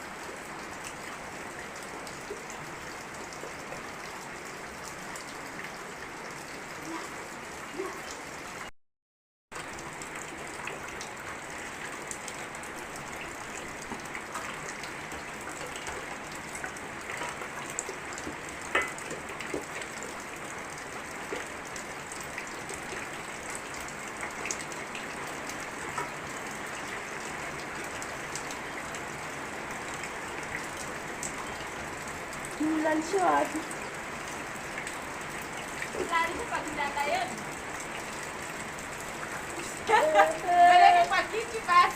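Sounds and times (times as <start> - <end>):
steady rain falling: 0.0 - 8.7, 9.5 - 41.9.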